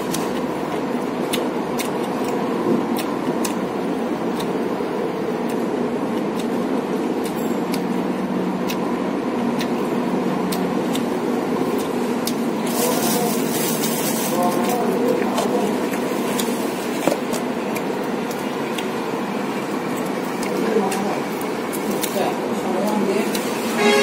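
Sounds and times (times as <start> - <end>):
man chewing food: 0.0 - 23.8
steady background noise: 0.0 - 24.0.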